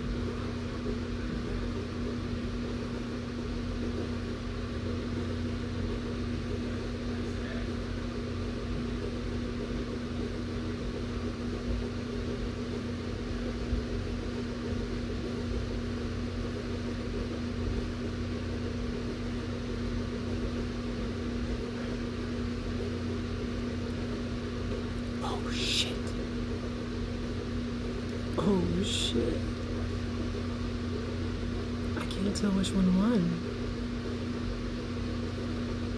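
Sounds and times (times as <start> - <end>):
electric fan whirring: 0.0 - 35.9.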